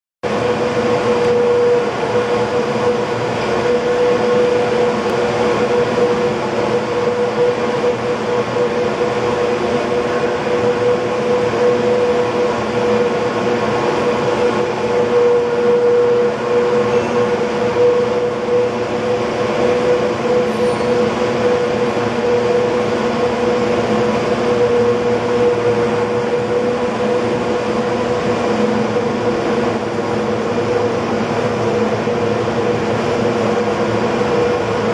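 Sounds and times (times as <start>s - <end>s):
machinery mechanical drone: 0.2s - 34.9s.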